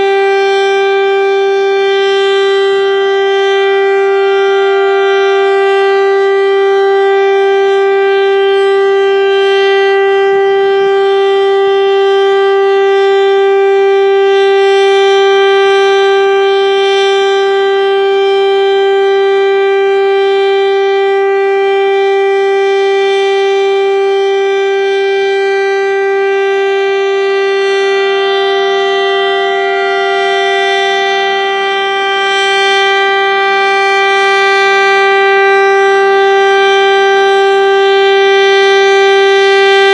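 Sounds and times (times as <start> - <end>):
single-tone warning siren: 0.0 - 39.9.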